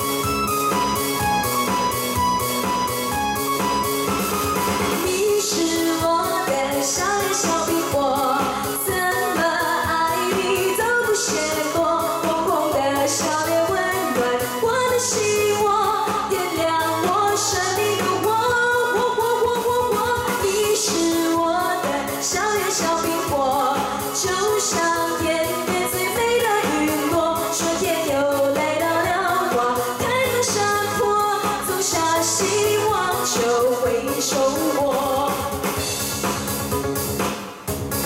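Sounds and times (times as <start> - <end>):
pop backing track with beat: 0.0 - 38.0
woman singing into a microphone: 5.0 - 35.7.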